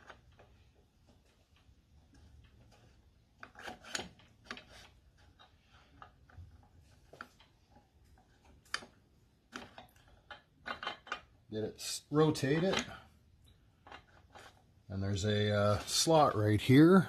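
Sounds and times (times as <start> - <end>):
faint metallic clicks and scrapes: 0.0 - 16.4.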